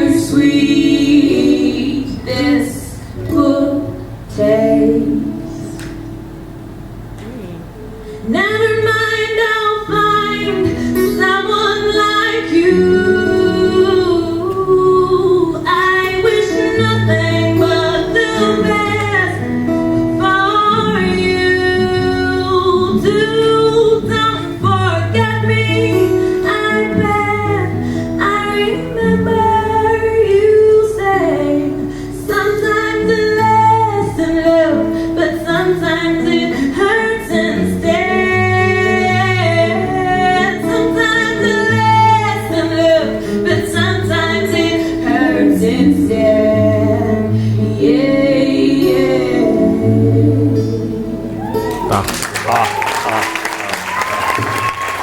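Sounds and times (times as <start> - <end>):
woman singing: 0.0 - 5.9, 8.2 - 19.5, 20.1 - 51.2
plucked guitar: 0.0 - 53.2.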